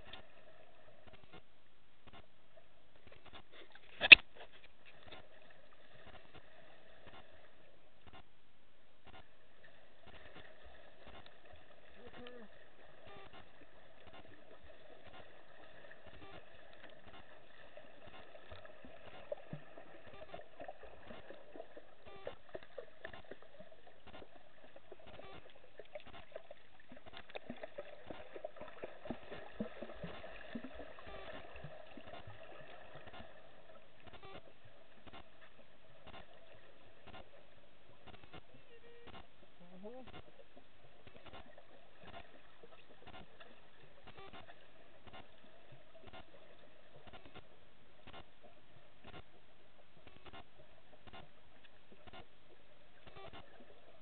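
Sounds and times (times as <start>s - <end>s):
muffled underwater hum: 0.0s - 54.0s.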